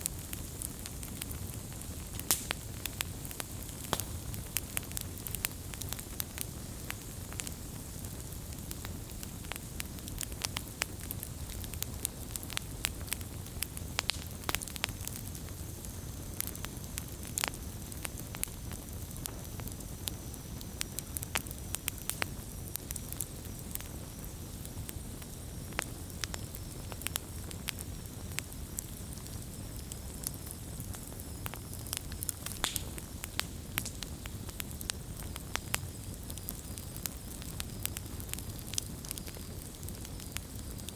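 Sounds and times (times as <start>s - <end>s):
low rush of flame: 0.0s - 40.9s
wood fire popping and crackling: 0.0s - 40.9s.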